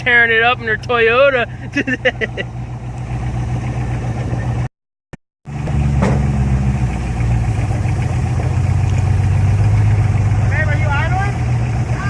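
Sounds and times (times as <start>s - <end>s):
truck engine running at low revs: 0.0s - 4.7s, 5.5s - 12.0s.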